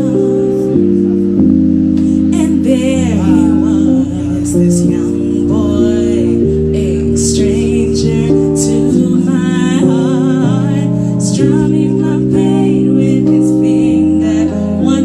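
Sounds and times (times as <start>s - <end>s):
electronic keyboard chords: 0.0s - 15.0s
woman singing with vibrato: 0.0s - 15.0s.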